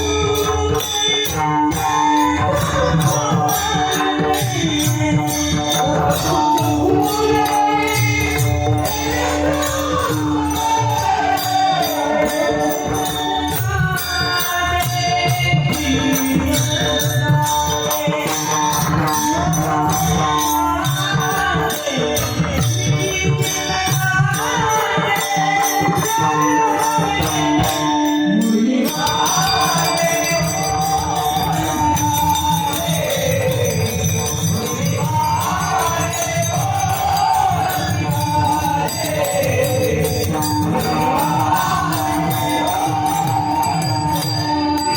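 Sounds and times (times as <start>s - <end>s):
jingling percussion: 0.0s - 44.9s
man singing devotional song: 0.0s - 44.9s.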